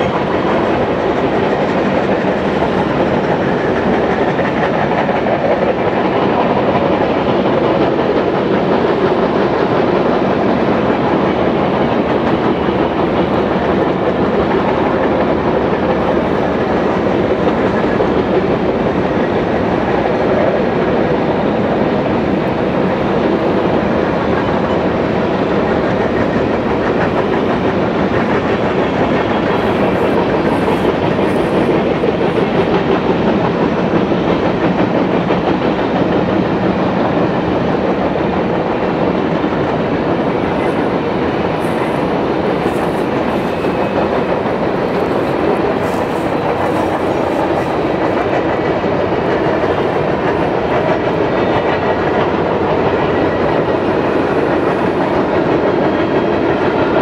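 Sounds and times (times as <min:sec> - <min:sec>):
freight train cars rolling past: 0:00.0 - 0:57.0
steel wheels on rails: 0:00.0 - 0:57.0.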